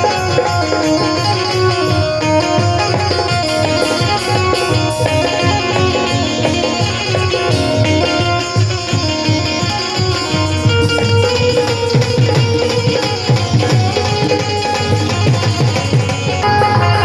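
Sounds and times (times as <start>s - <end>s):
plucked string instrument melody: 0.0s - 17.0s
steady drum beat: 0.0s - 17.0s.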